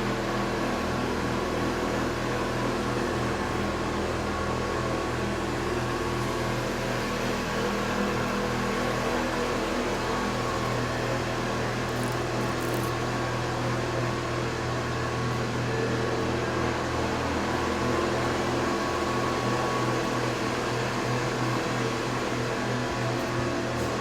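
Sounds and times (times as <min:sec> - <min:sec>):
furnace machinery hum: 0:00.0 - 0:24.0.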